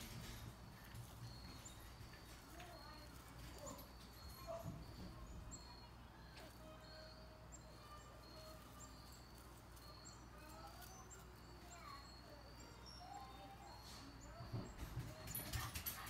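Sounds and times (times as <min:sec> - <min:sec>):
distant birds chirping: 0:00.0 - 0:15.4.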